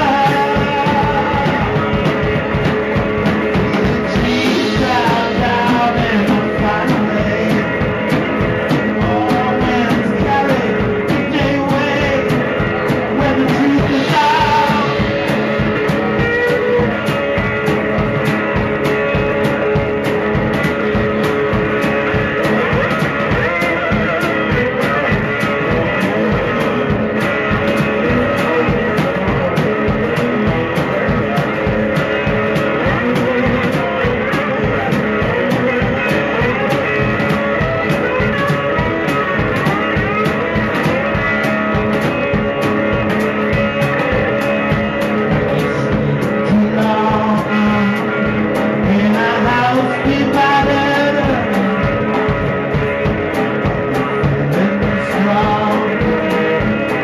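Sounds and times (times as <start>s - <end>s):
drum kit beat: 0.0s - 57.0s
electric guitar playing blues: 0.0s - 57.0s.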